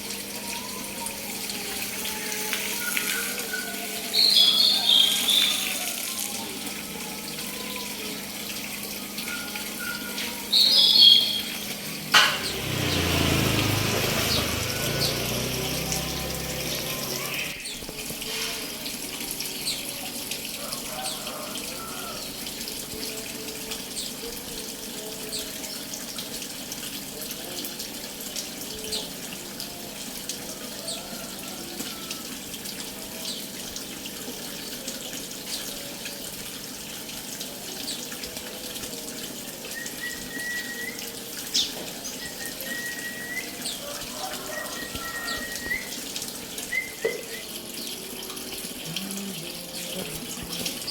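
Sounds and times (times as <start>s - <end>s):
water running: 0.0s - 50.9s.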